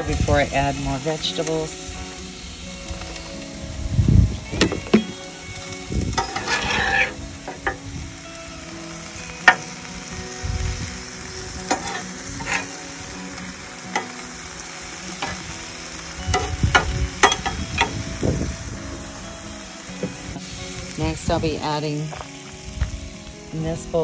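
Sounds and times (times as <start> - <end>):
chicken sizzling on griddle: 0.0 - 24.0.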